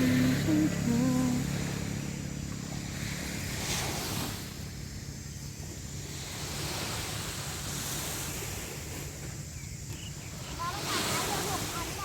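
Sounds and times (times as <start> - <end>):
sea surf washing on beach: 0.0 - 12.0
wind on microphone: 0.0 - 12.0.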